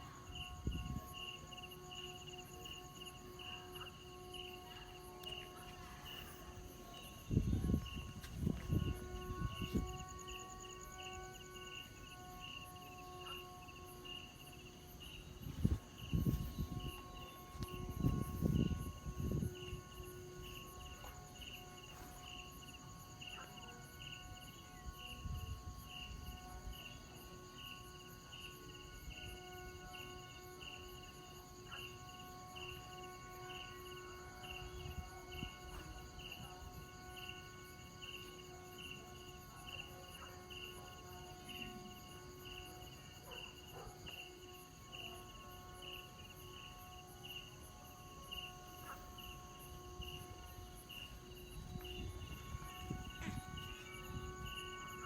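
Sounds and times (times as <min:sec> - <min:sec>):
crickets chirping: 0:00.0 - 0:55.0
kite flute horn-like chord: 0:00.0 - 0:55.0.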